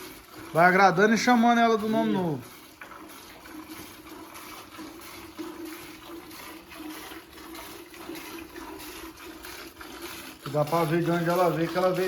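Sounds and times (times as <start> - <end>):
milk squirting into bucket: 0.0 - 12.0.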